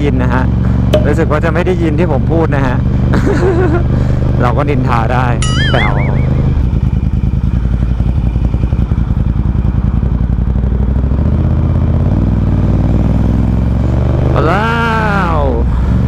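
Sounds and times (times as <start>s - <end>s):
motorcycle engine riding: 0.0s - 16.0s.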